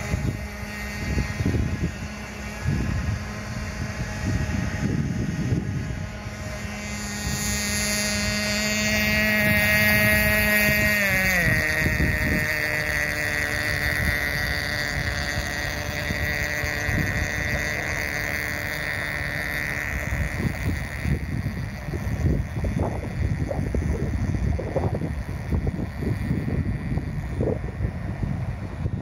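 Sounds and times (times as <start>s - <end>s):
small boat engine buzzing: 0.0s - 29.0s.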